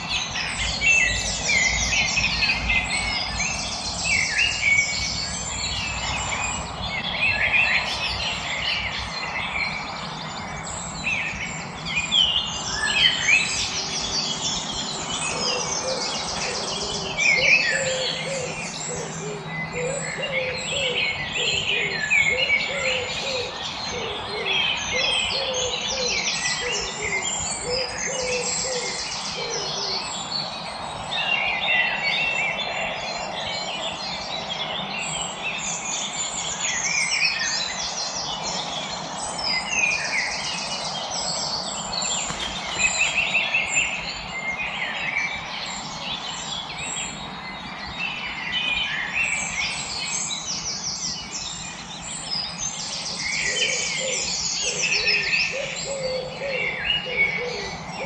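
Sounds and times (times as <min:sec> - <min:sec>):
low repeated bird calls: 0:00.0 - 0:58.0
songbirds chirping and trilling: 0:00.0 - 0:58.0.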